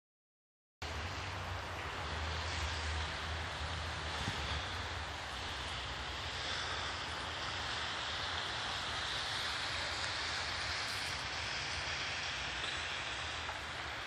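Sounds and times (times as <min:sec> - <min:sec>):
even hiss: 0:00.8 - 0:14.0.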